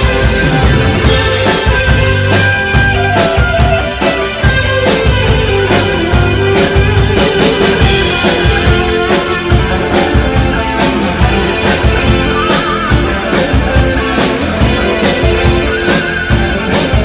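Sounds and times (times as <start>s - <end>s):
electric guitar: 0.0s - 17.0s
live rock band playing: 0.0s - 17.0s
steady drum beat: 0.0s - 17.0s.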